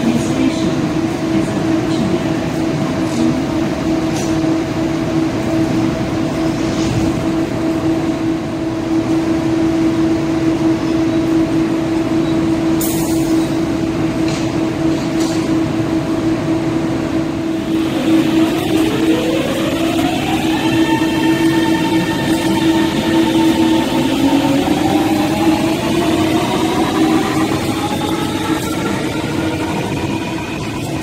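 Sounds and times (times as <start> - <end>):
train electrical hum: 0.0 - 31.0.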